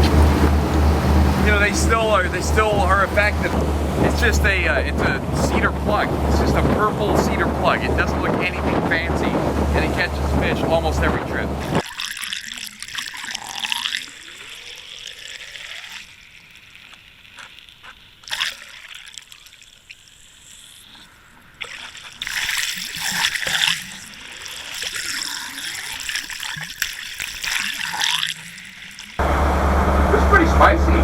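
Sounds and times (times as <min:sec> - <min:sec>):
sea water splashing: 0:00.0 - 0:29.2.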